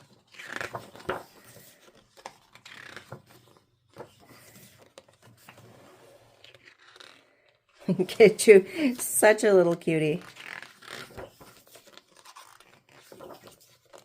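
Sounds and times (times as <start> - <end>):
paper pages rustling: 0.0 - 14.0.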